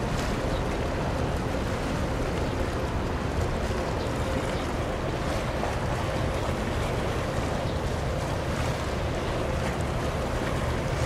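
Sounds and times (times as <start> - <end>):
ship engine low rumble: 0.0 - 11.0.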